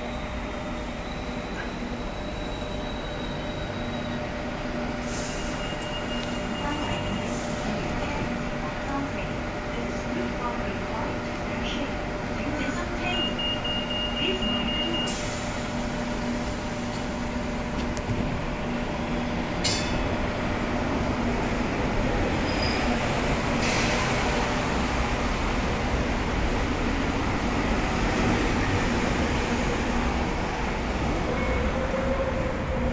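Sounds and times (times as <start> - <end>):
electric train hum: 0.0 - 32.9
train wheel and running noise: 0.0 - 32.9.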